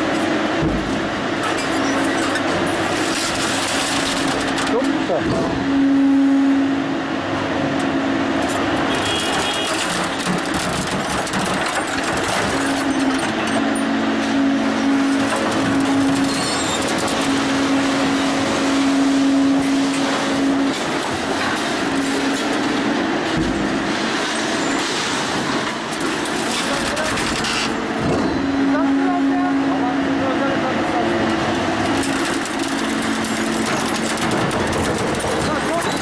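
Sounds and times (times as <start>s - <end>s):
loud machine noise: 0.0s - 36.0s.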